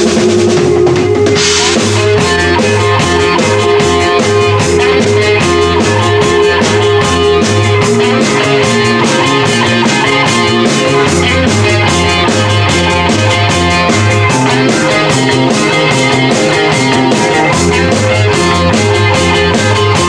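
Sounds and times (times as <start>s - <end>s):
bass guitar: 0.0s - 20.0s
drum beat: 0.0s - 20.0s
electric guitars: 0.0s - 20.0s.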